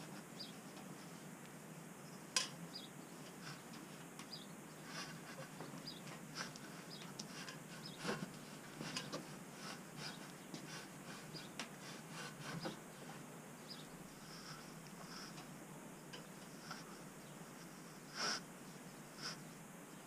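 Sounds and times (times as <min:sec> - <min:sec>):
insulation rustling and scratching: 0:03.1 - 0:19.7.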